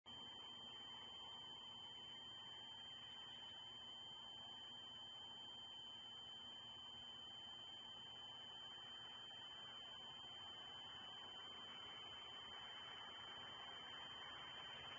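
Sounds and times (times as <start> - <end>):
faint high-pitched whine: 0.1 - 14.9.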